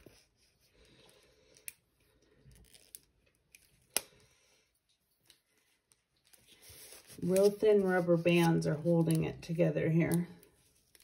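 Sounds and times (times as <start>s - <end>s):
light rustling of packaging: 0.0s - 11.0s.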